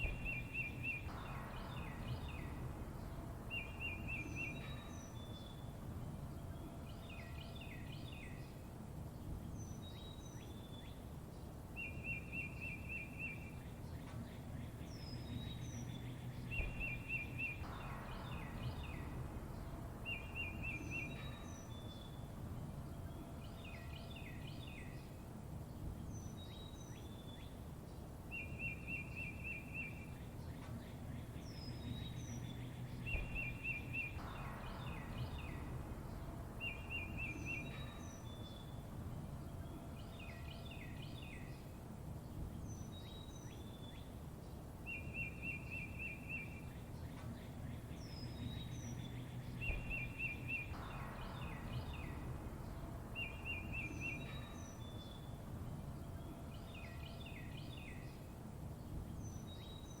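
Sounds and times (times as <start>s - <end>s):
steady low rumble: 0.0s - 11.7s, 13.5s - 28.6s, 29.8s - 60.0s
songbirds chirping and trilling: 0.0s - 60.0s.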